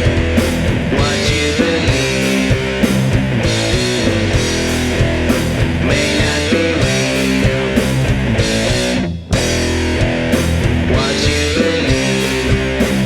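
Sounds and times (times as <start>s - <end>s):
bass guitar: 0.0s - 13.0s
distorted electric guitar riffing: 0.0s - 13.0s
drums: 0.0s - 13.0s.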